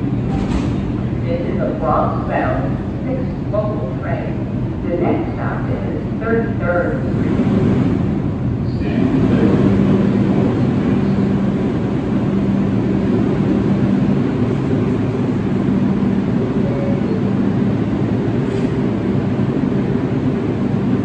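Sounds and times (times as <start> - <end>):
subway train equipment humming: 0.0 - 21.0.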